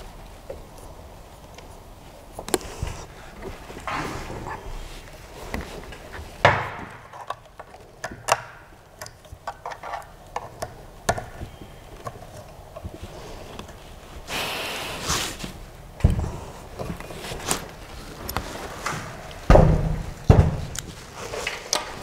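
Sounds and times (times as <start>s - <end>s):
scraping rustle: 0.0s - 7.9s, 11.5s - 22.0s.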